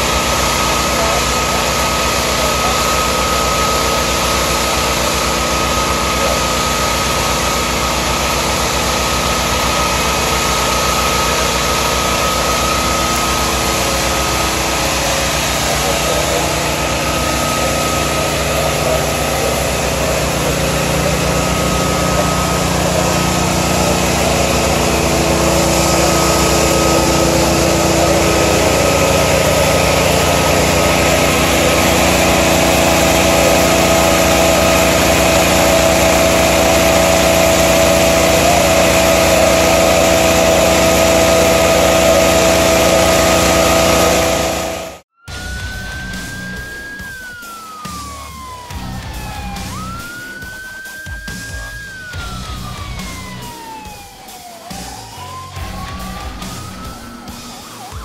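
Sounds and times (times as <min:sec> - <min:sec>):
ventilation fan engine whining: 0:00.0 - 0:57.6.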